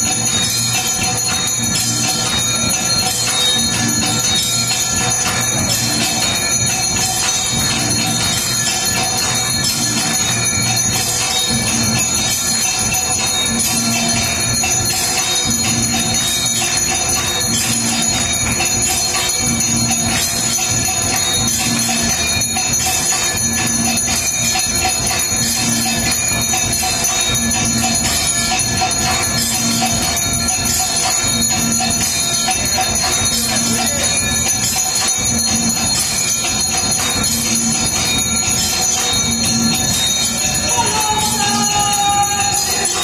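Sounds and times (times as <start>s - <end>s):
temple bells ringing: 0.0s - 43.0s.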